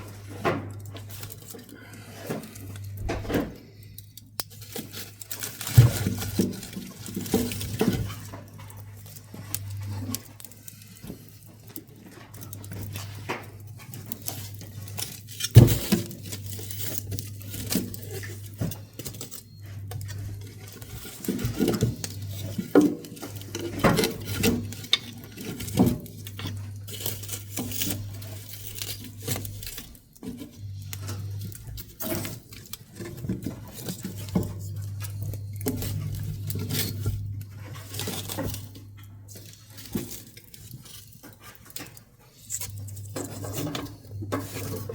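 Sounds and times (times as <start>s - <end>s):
wood crackling in a stove: 0.0s - 44.9s.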